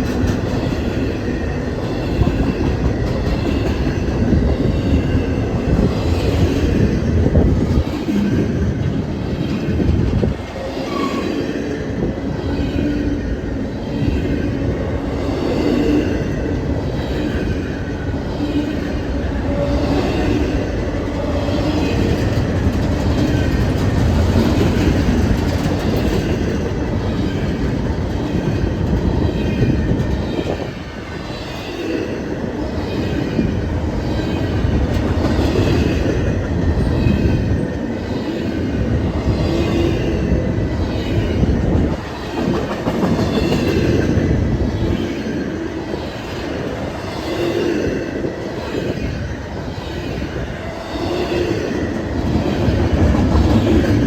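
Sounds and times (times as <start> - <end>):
freight train wheels clacking: 0.0 - 54.0
train rumble: 0.0 - 54.0.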